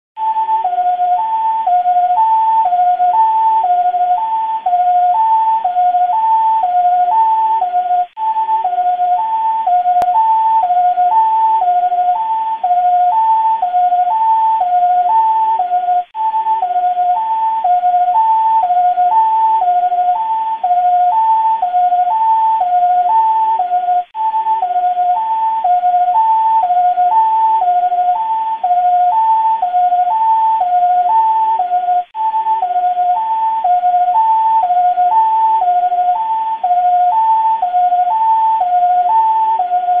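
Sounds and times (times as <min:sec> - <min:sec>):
two-tone police siren: 0:00.2 - 0:40.0.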